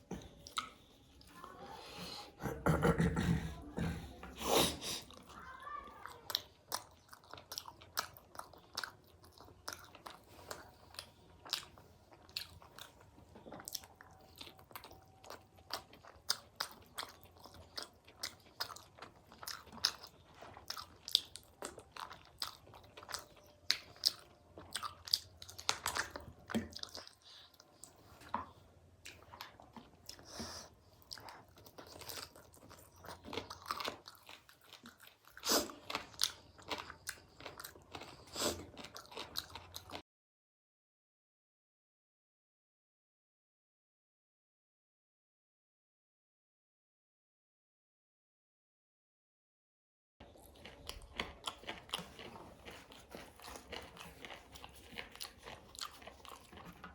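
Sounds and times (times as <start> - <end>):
person chewing crunchy food: 0.0 - 2.7, 3.6 - 40.0, 50.2 - 56.9.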